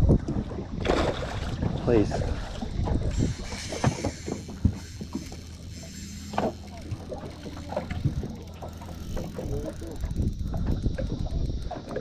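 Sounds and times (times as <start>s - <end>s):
water lapping against boat: 0.0s - 12.0s
wind on microphone: 0.0s - 12.0s.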